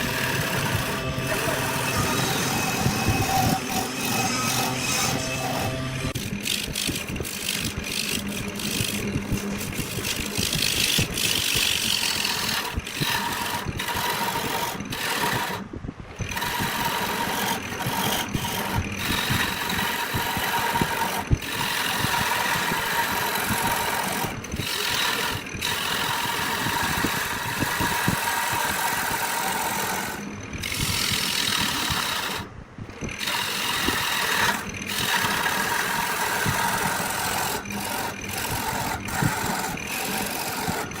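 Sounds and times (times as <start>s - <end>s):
wood lathe turning: 0.0s - 41.0s.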